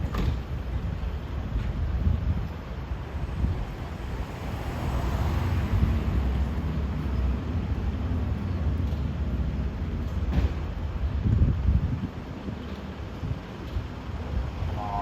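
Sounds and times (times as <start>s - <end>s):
fire engine rumble: 0.0s - 15.0s
wind buffeting microphone: 0.0s - 15.0s.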